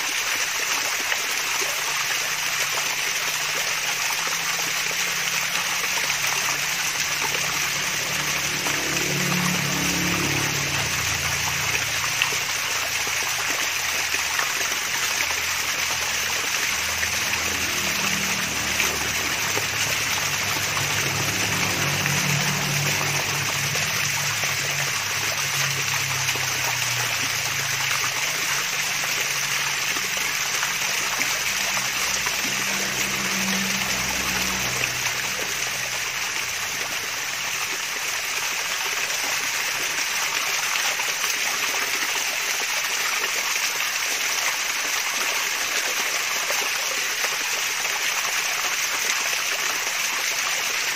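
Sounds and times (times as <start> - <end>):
waterfall splashing: 0.0 - 50.9.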